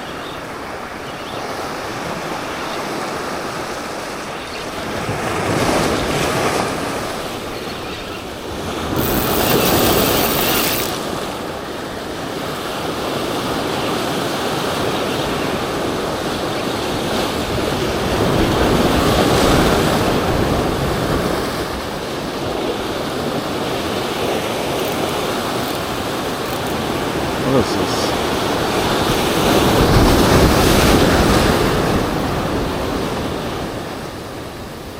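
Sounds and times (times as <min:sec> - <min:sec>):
ocean surf breaking over rocks: 0:00.5 - 0:34.9.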